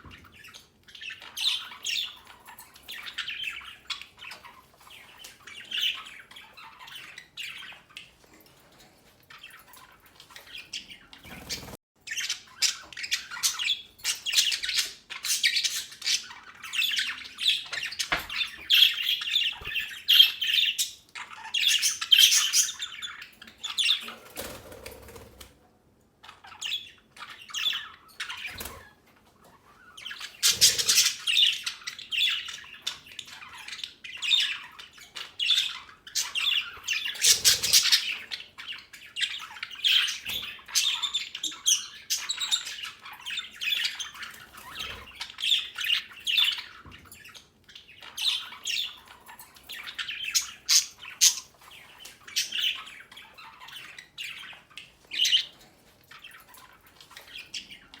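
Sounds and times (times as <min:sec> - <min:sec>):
budgerigars chattering and squawking: 0:00.0 - 0:25.5, 0:26.2 - 0:58.0.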